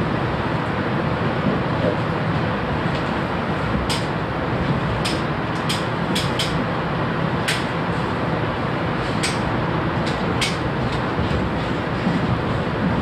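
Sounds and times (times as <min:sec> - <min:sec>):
train rolling at speed: 0:00.0 - 0:13.0.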